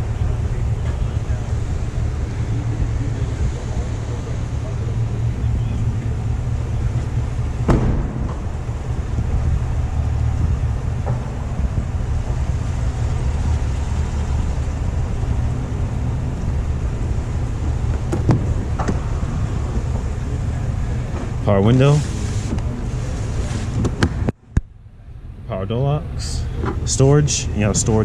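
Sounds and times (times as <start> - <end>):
suv engine idling: 0.0 - 28.0.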